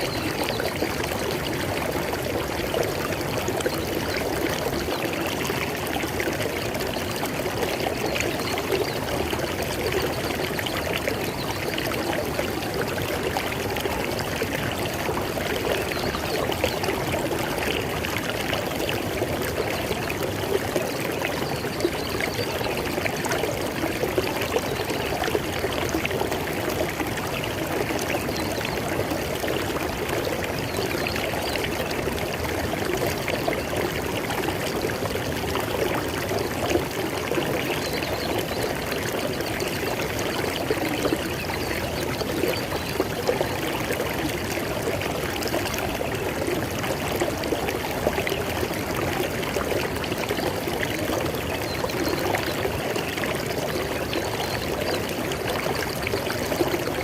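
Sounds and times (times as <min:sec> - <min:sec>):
river water rushing and burbling: 0:00.0 - 0:57.0.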